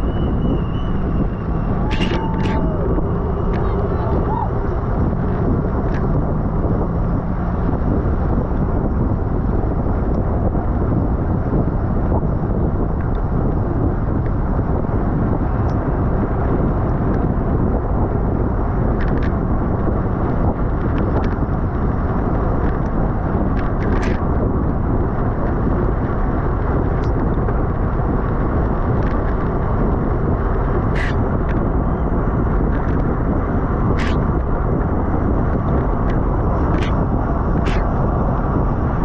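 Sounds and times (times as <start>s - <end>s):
road and tyre noise: 0.0s - 39.0s
wind rushing on microphone: 0.0s - 39.0s.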